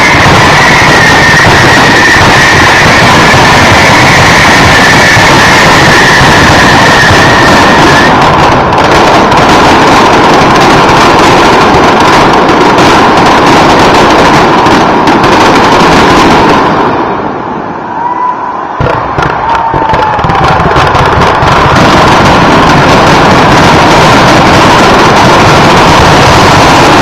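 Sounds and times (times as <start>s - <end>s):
fireworks bursts and crackling: 0.0s - 17.9s, 18.7s - 27.0s
high firework whistle: 0.0s - 27.0s.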